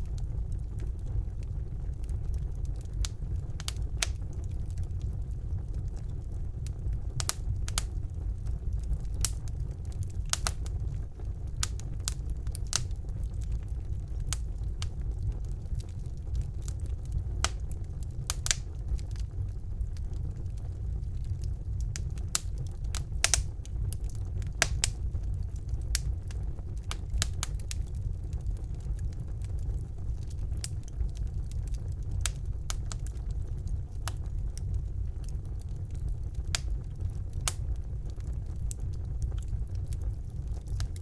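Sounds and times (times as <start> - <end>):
fire flames rumbling: 0.0 - 41.0
wood fire crackling and popping: 0.0 - 41.0.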